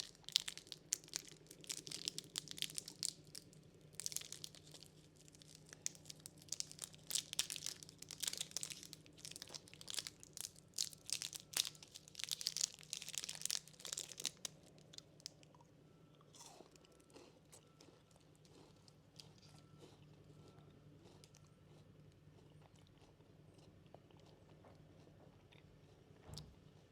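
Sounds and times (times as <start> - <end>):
crunchy snacks being chewed: 0.0 - 26.9.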